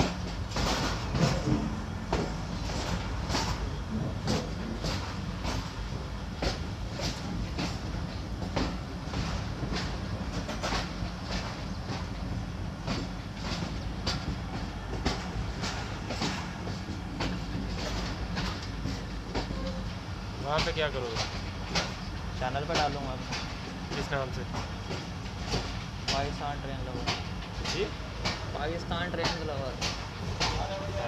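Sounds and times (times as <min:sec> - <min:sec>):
train rolling rumble: 0:00.0 - 0:31.0
train wheels clacking over rail joints: 0:00.0 - 0:31.0.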